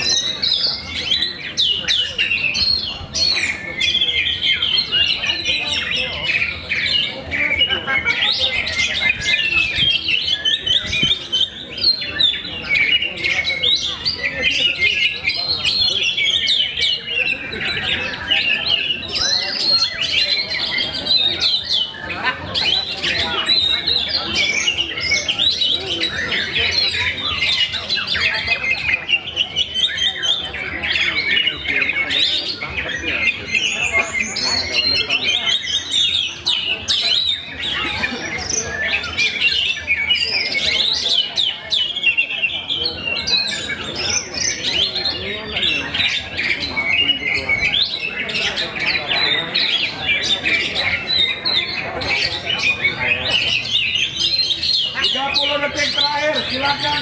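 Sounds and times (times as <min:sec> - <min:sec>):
magpie-robins singing: 0:00.0 - 0:57.0.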